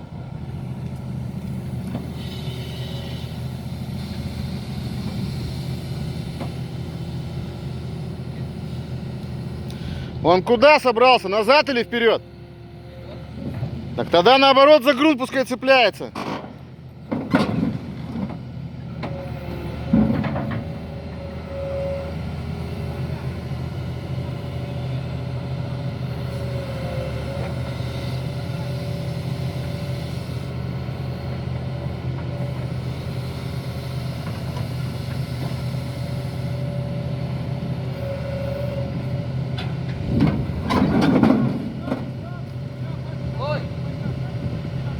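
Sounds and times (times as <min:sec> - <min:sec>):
excavator diesel engine running: 0:00.0 - 0:44.9
hydraulic whine: 0:00.0 - 0:44.9.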